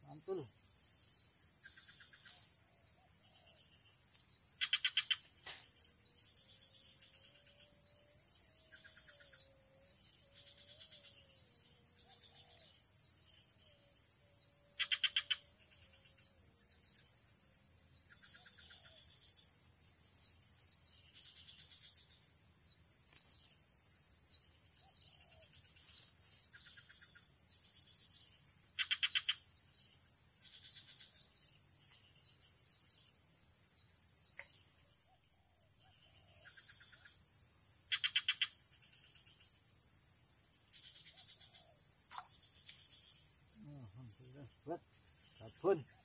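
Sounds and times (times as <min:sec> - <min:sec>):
high insect buzz: 0:00.0 - 0:46.0.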